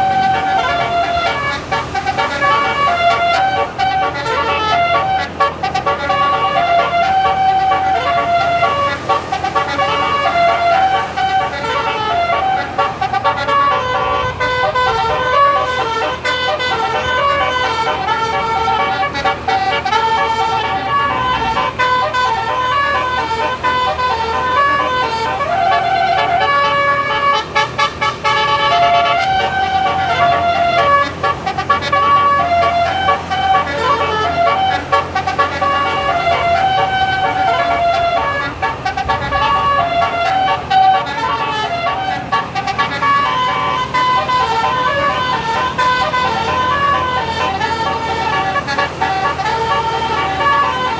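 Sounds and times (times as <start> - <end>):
multi-tone air horn melody: 0.0 - 50.9.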